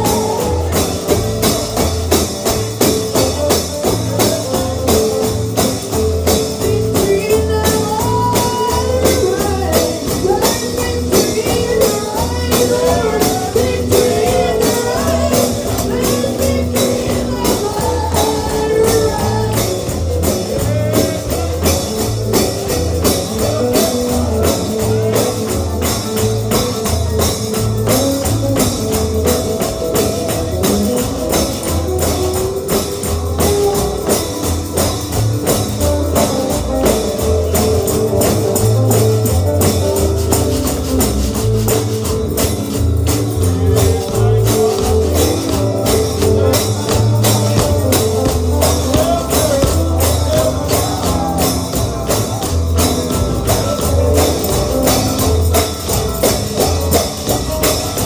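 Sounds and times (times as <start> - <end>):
bluegrass gospel band playing: 0.0 - 58.0
tambourine beat: 0.0 - 58.0.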